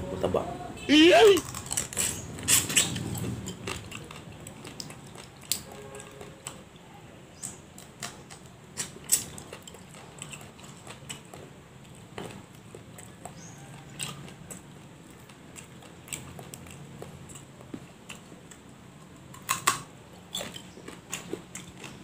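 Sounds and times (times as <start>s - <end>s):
person chewing and crunching: 1.0s - 6.6s, 7.8s - 22.0s.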